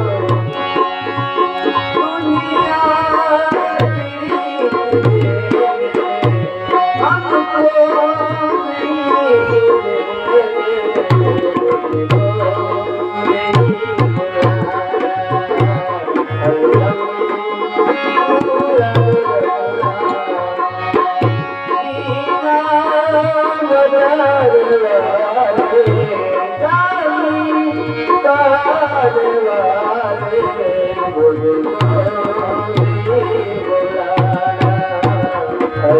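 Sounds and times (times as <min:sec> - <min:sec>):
tabla playing a rhythm: 0:00.0 - 0:35.9.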